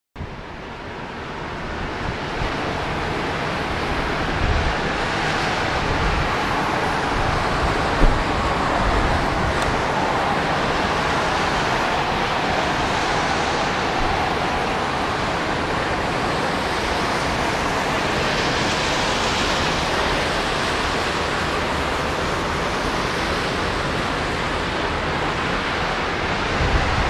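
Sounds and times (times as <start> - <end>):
wind buffeting microphone: 0.2 - 23.2, 24.6 - 27.0
steady rushing surf or wind: 0.2 - 27.0.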